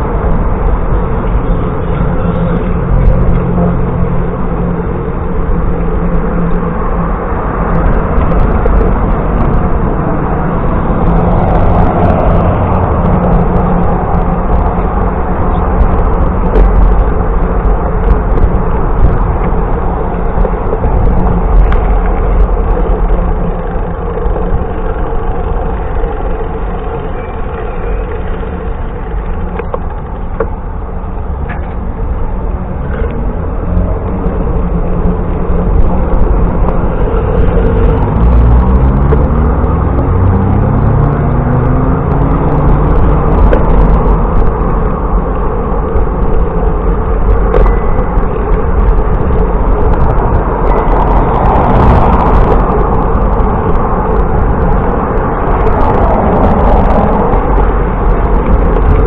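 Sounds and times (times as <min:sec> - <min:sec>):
bicycle road noise: 0:00.0 - 0:59.0
wind: 0:00.0 - 0:59.0.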